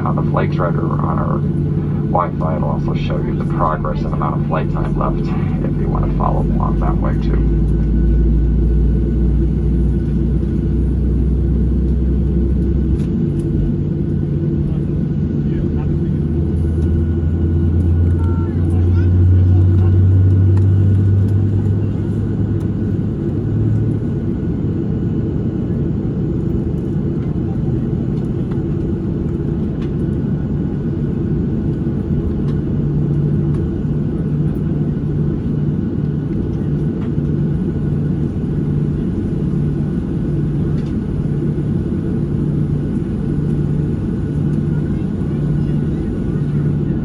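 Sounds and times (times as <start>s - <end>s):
airplane cabin drone: 0.0s - 47.0s
pulsing low hum: 0.0s - 47.0s.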